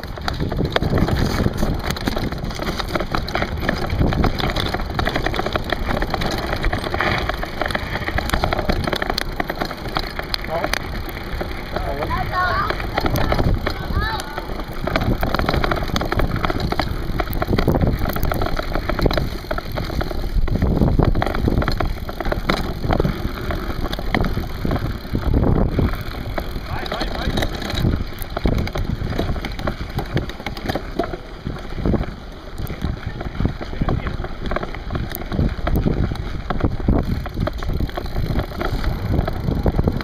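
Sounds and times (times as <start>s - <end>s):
bike clicks and rattles: 0.0s - 40.0s
bike tyres rumbling on dirt: 0.0s - 40.0s
wind buffeting microphone: 0.0s - 40.0s.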